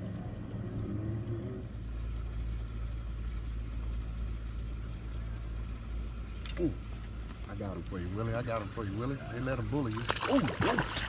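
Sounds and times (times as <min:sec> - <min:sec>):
low rumble with a hum: 0:00.0 - 0:11.0.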